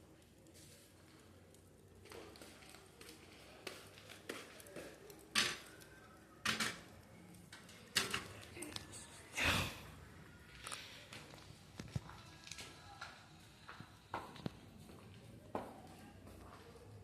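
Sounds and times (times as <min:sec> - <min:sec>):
loud fire pops and cracks: 0:00.0 - 0:09.0, 0:09.6 - 0:15.2
campfire crackling: 0:00.0 - 0:17.0.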